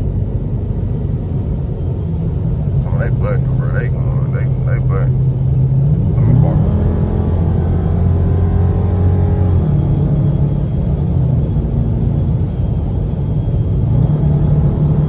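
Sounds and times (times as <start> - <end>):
car engine running: 0.0 - 15.0
road rumble: 0.0 - 15.0.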